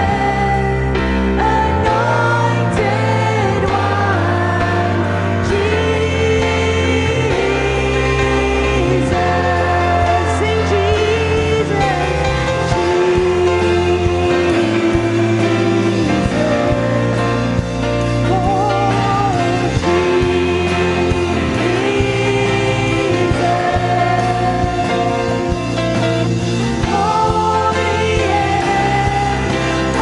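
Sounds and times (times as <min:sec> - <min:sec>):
band with guitar and bass: 0:00.0 - 0:30.0
voices singing: 0:00.0 - 0:30.0.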